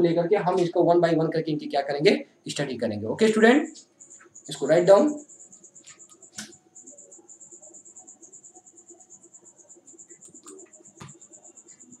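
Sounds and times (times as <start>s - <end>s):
faint insect chirping: 0.0s - 12.0s.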